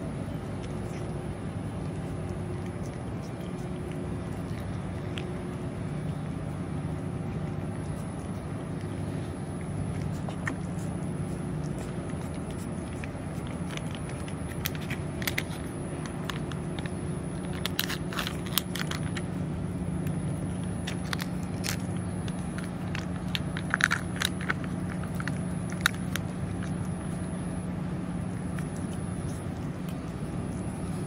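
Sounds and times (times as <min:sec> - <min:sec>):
cat chewing and licking food: 0:00.0 - 0:31.0
faint high whine: 0:00.0 - 0:31.0
low hum: 0:00.0 - 0:31.0.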